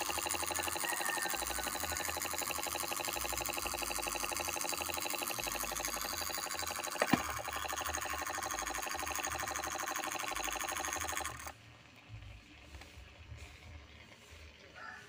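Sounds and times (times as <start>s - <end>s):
small electric motor pulsing: 0.0s - 15.0s.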